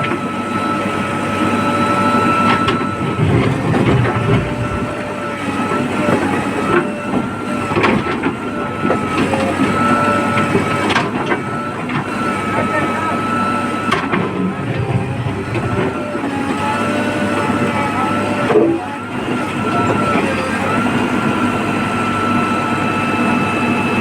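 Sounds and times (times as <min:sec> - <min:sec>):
backhoe loader engine whining: 0:00.0 - 0:24.0.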